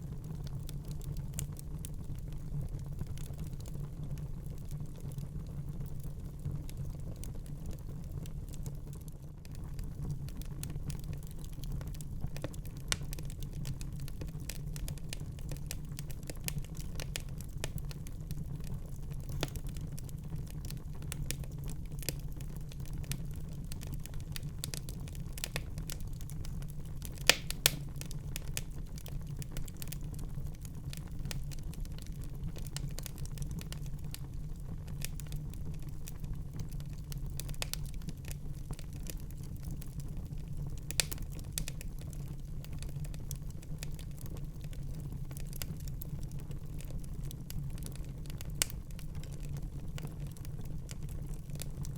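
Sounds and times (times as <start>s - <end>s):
burning logs crackling and popping: 0.0s - 51.9s
low rumble of flames: 0.0s - 51.9s.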